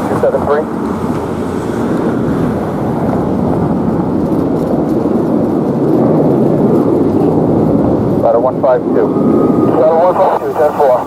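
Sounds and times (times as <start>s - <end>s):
heavy vehicle engine rumble: 0.0s - 11.0s.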